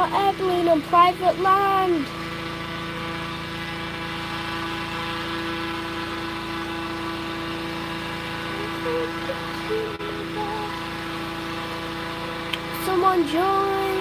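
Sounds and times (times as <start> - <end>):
inflator fan running: 0.0 - 14.0.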